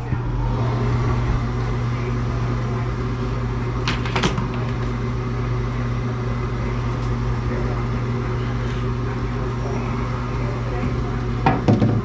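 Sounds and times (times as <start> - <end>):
furnace motor humming: 0.0 - 12.0.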